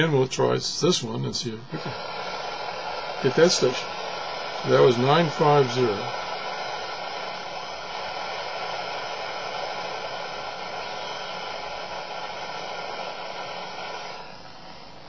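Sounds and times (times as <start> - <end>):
radio static hiss: 1.4 - 15.0.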